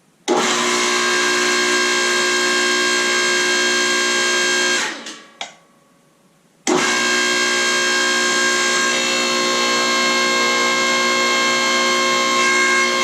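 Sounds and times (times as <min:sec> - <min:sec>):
electric motor and pump hum: 0:00.2 - 0:05.5, 0:06.6 - 0:13.0.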